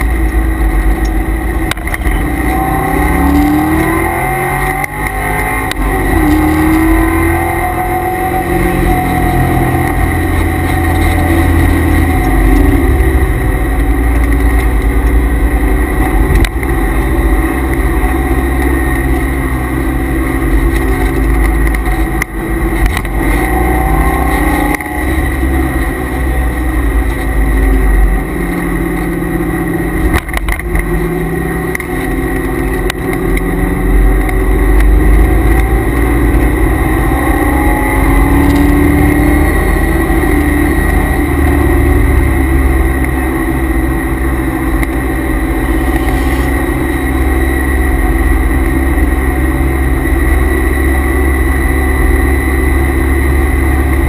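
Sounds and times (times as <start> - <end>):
car engine revving: 0.0 - 54.0
steady high whine: 0.0 - 54.0.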